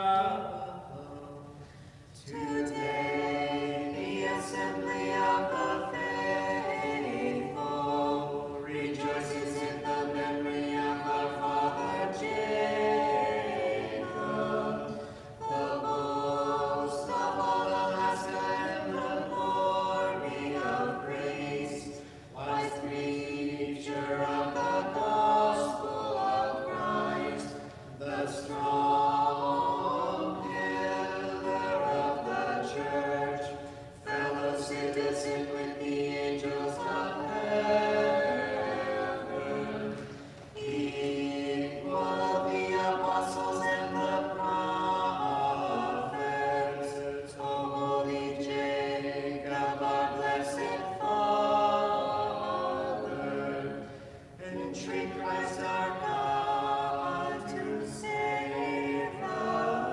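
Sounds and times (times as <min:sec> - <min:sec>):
choir singing a cappella hymn: 0:00.0 - 0:59.9.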